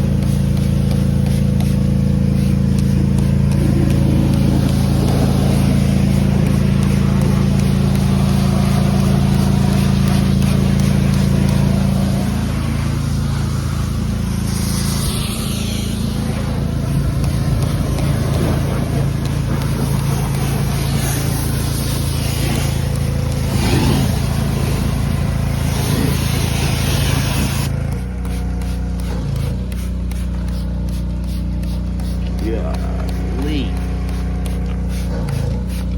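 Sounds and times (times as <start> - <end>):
hissing water spray: 0.0 - 35.9
pressure washer motor running: 0.0 - 35.9.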